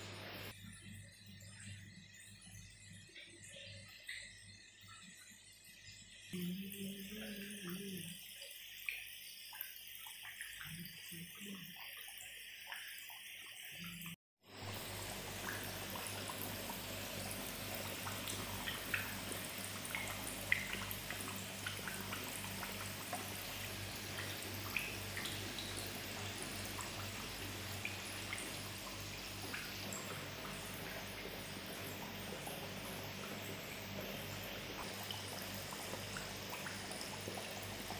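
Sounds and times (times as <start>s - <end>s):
dough deep-frying in oil: 0.0s - 37.9s.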